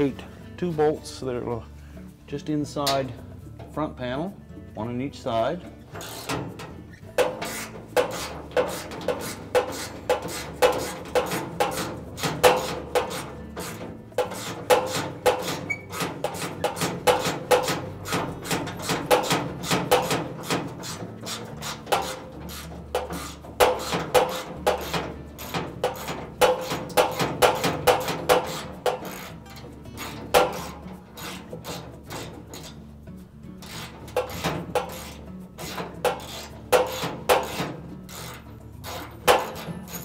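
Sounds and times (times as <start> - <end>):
ratchet clicking: 6.0 - 32.8, 33.6 - 40.0.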